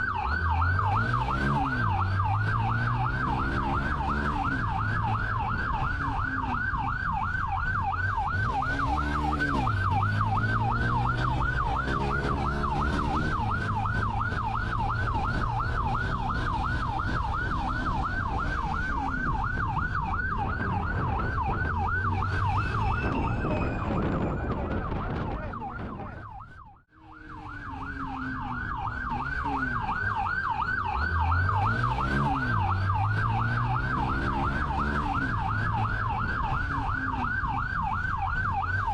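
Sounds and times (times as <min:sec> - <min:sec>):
vehicle engine revving: 0:00.0 - 0:07.0, 0:07.8 - 0:25.5, 0:27.2 - 0:38.9
police siren yelping: 0:00.0 - 0:38.9.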